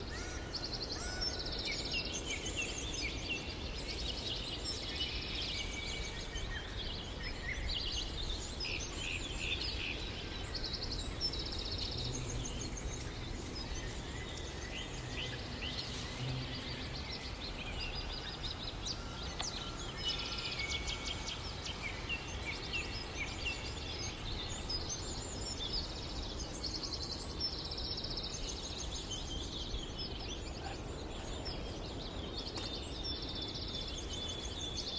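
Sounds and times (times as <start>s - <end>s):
birds singing and calling: 0.0s - 34.9s.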